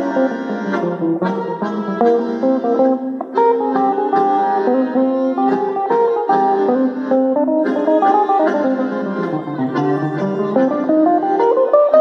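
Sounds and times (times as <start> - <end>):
acoustic chamber music: 0.0 - 12.0
plucked guitar: 0.0 - 12.0.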